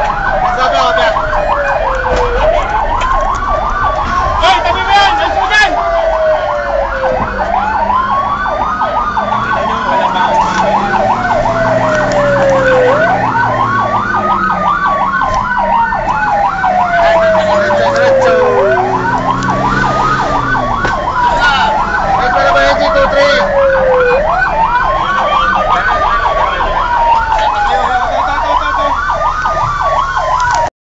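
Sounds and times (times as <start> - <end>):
siren fast yelp: 0.0 - 30.7
siren wailing up and down: 0.0 - 30.7.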